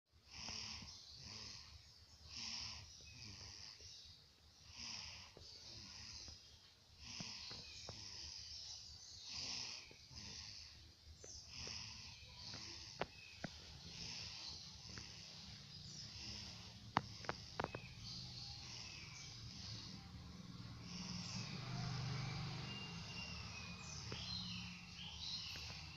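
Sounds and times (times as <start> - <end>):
baby snoring: 0.2 - 25.9.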